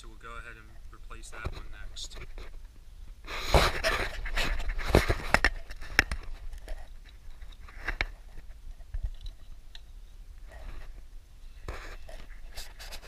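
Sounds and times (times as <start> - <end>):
rustling and scraping: 0.4 - 13.0.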